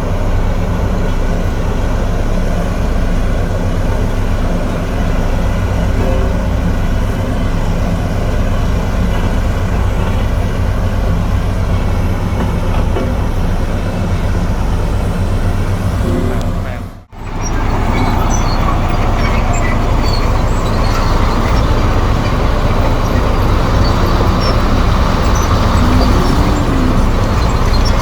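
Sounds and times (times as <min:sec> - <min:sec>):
bulldozer diesel engine rumbling: 0:00.0 - 0:28.0.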